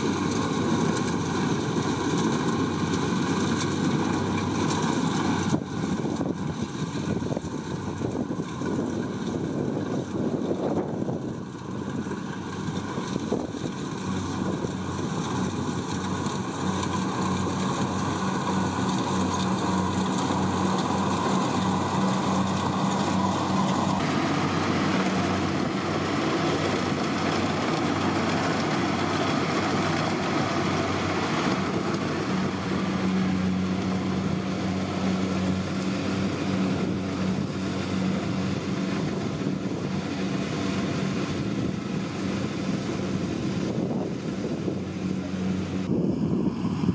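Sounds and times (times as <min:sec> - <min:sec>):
combine harvester droning: 0:00.0 - 0:46.9.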